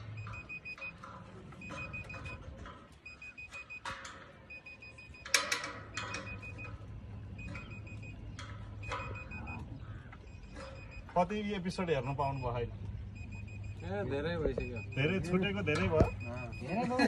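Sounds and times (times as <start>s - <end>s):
meter beeping in short high pips: 0.0s - 16.9s
steady low hum: 0.0s - 17.0s.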